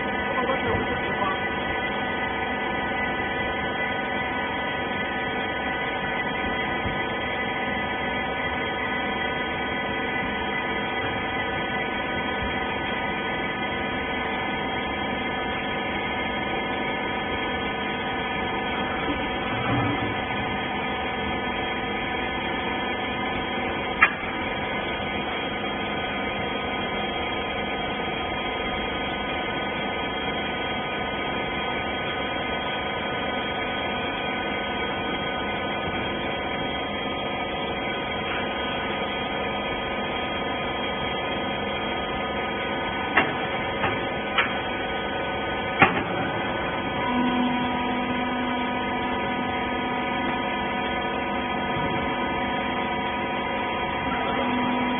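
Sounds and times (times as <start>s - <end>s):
hydraulic power unit humming: 0.0s - 54.9s.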